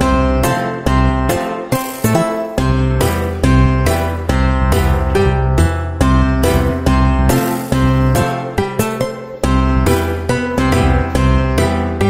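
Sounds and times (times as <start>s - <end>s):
plucked guitar-like music: 0.0s - 12.0s.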